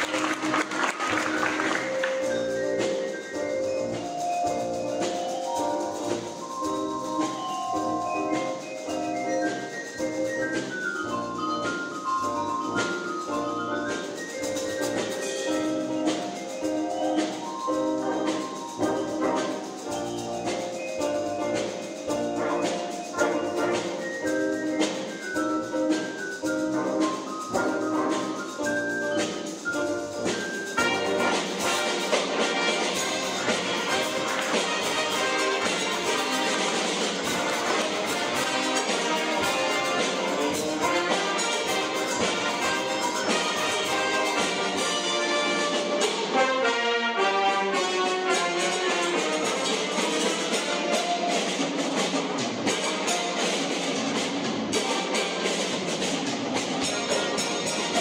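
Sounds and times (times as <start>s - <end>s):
jazz band playing: 0.0s - 58.0s.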